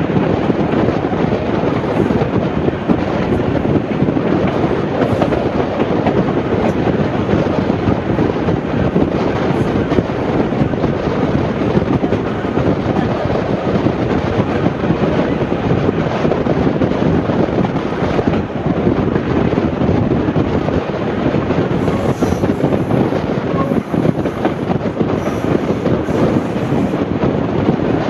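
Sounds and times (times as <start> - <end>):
train wheels rumbling on rail: 0.0 - 28.0
wind buffeting microphone: 0.0 - 28.0.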